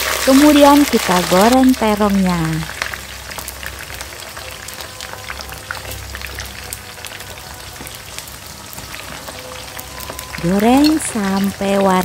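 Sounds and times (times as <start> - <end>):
eggplant frying in hot oil: 0.0 - 12.0.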